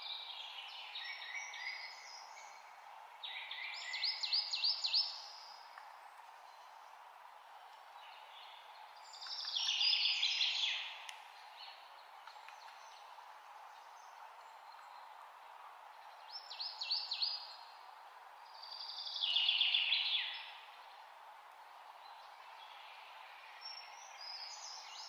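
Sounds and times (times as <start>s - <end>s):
low hiss: 0.0s - 25.0s.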